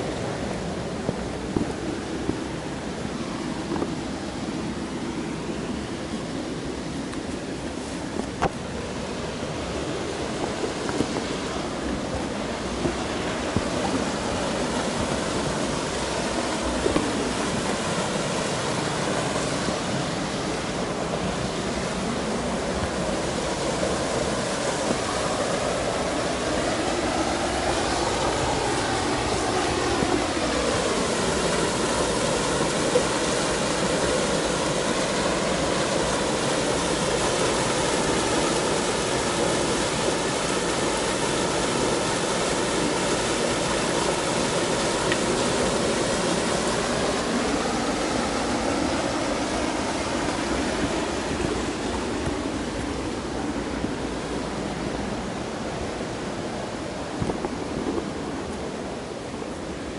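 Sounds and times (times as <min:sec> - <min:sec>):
stream pouring over rocks: 0:00.0 - 0:59.9.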